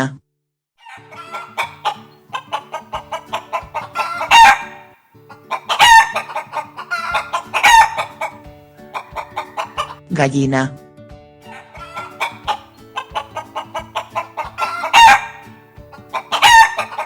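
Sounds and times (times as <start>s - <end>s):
hen cackling loudly: 0.8s - 10.0s, 11.5s - 17.0s
hen clucking: 0.8s - 10.0s, 11.5s - 17.0s.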